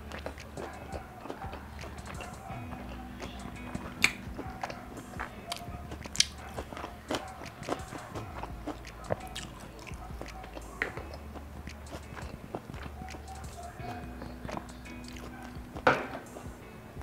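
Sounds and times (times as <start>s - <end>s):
close chewing: 0.0s - 17.0s
mouth clicks: 0.0s - 17.0s.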